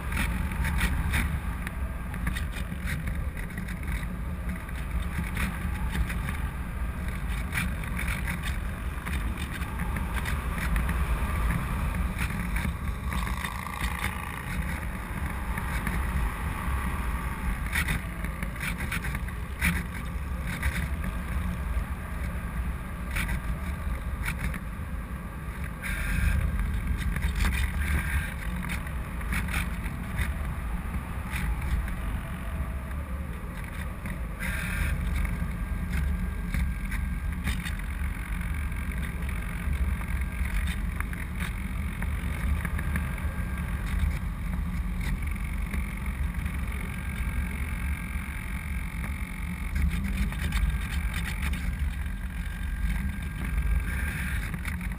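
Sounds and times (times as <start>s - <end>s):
wind rushing over camera: 0.0s - 54.9s.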